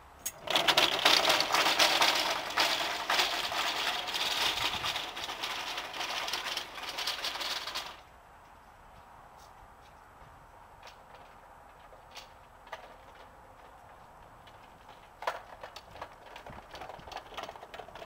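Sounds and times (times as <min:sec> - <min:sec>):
trolley rattling over brick paving: 0:00.3 - 0:08.1, 0:10.8 - 0:18.0.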